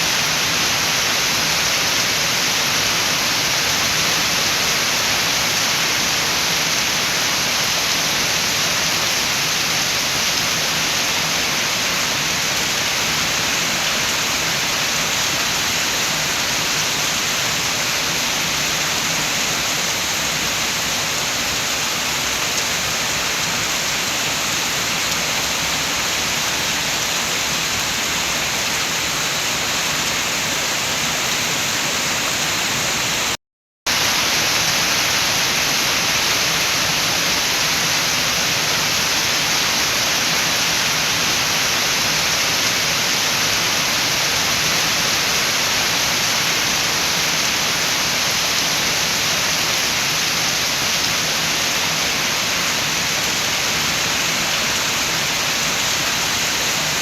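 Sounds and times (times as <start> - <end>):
rain with wind hissing: 0.0 - 57.0.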